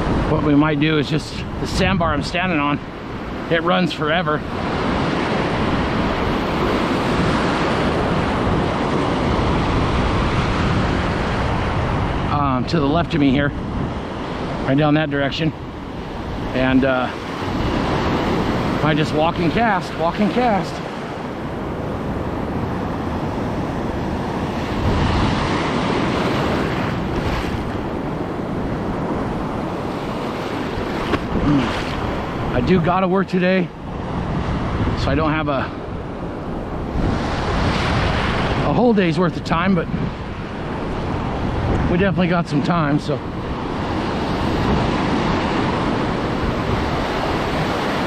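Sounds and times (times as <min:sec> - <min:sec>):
ocean surf breaking: 0:00.0 - 0:48.0
wind on microphone: 0:00.0 - 0:48.0.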